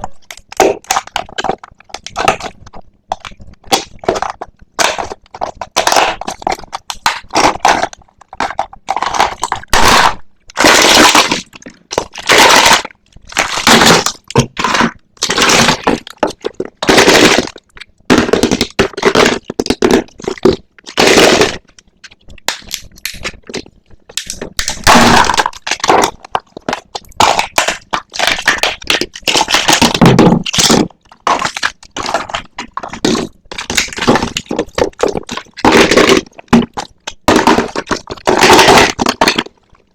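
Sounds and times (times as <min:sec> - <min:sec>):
packaging crinkling and tearing: 0:00.0 - 0:39.9.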